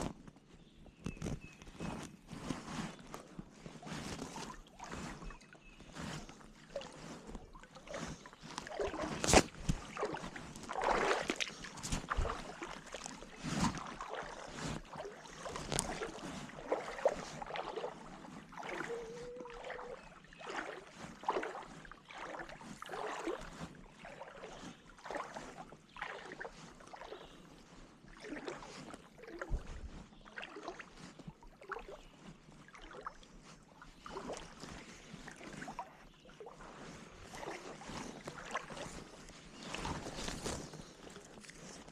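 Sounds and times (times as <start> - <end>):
paddle splashing water: 0.9 - 41.9.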